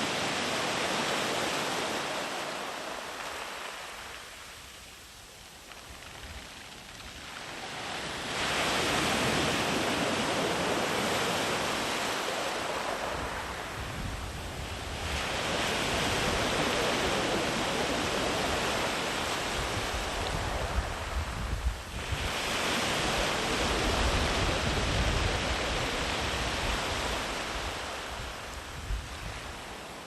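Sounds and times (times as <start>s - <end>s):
sea waves breaking on beach: 0.0s - 4.8s, 5.8s - 30.0s.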